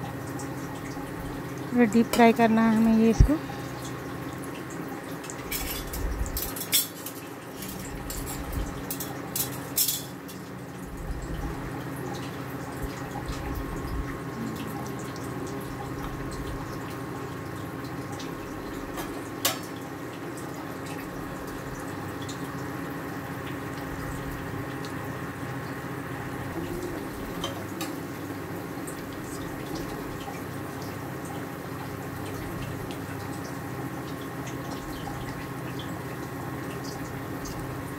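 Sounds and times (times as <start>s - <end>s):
chicken sizzling in hot oil: 3.0s - 37.9s.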